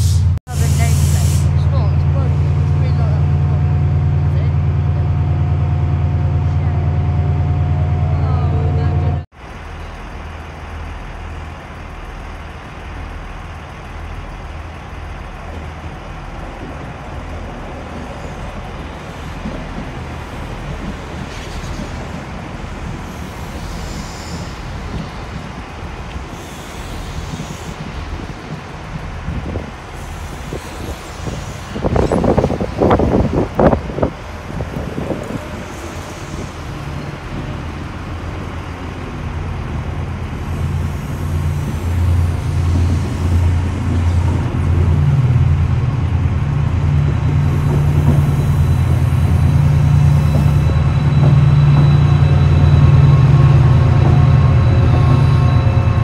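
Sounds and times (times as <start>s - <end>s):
train wheels rumbling on rails: 0.0s - 56.0s
train clattering: 1.5s - 56.0s.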